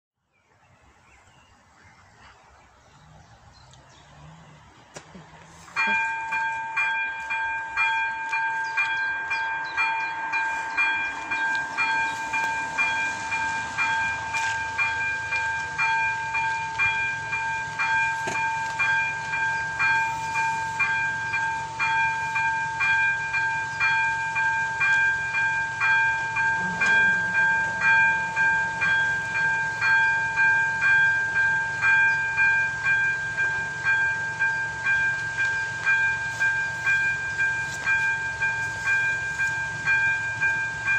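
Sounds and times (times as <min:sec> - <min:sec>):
level crossing warning bell: 0:05.4 - 0:40.9.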